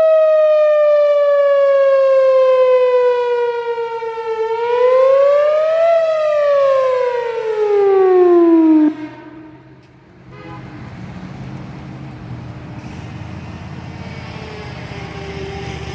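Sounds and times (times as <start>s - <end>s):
tornado warning siren: 0.0s - 10.0s, 12.9s - 15.9s.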